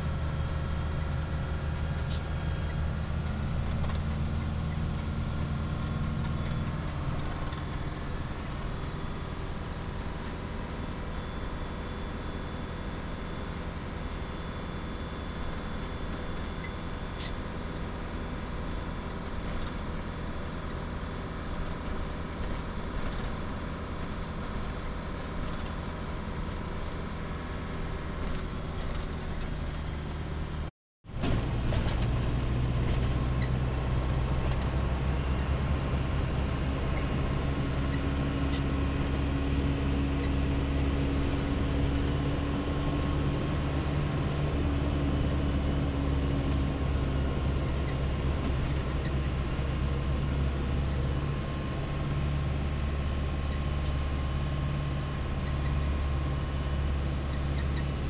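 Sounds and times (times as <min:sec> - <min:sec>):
vehicle engine and road hum: 0:00.0 - 0:58.0.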